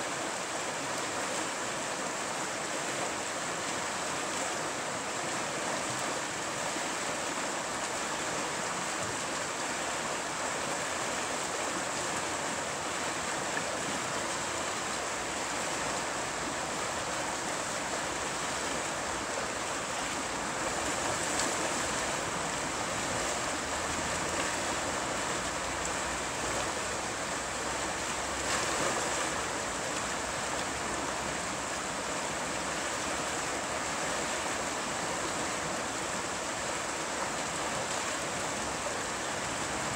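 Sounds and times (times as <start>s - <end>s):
river water rushing over rapid: 0.0s - 39.9s.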